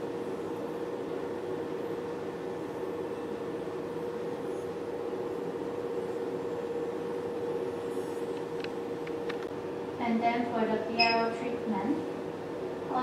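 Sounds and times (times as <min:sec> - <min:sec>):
electrical hum of beauty machine: 0:00.0 - 0:13.0.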